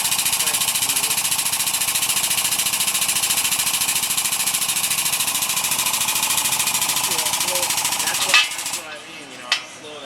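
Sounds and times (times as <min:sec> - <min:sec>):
pulsing mechanical hum: 0:00.0 - 0:09.1.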